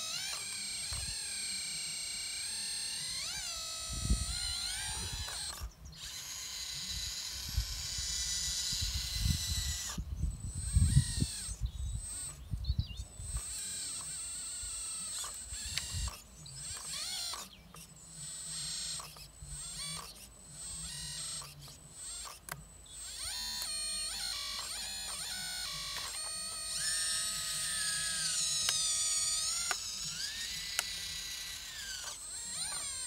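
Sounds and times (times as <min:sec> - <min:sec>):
excavator pump and motors whining: 0:00.0 - 0:33.0.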